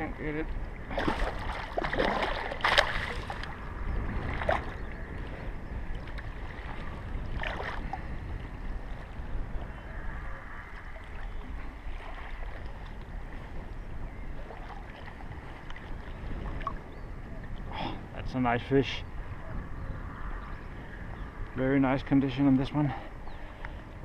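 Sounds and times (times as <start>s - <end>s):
lapping lake water: 0.0s - 24.0s
wind rumble on microphone: 0.0s - 24.0s.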